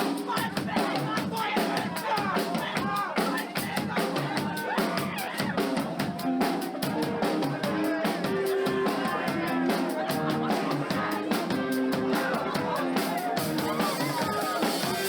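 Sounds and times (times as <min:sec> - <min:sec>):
drum kit fast beat: 0:00.0 - 0:15.0.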